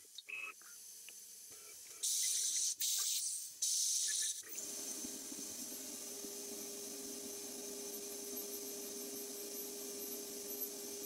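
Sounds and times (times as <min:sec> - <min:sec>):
coolant spraying with low hum: 0:02.1 - 0:11.0.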